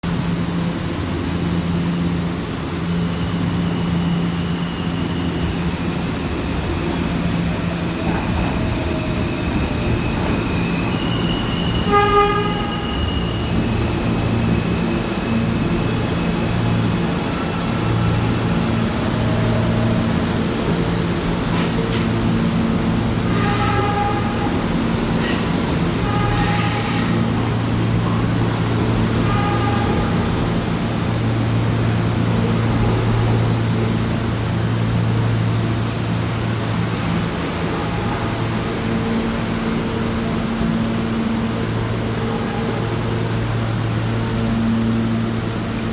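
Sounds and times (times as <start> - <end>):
subway train rumbling: 0.0 - 45.9.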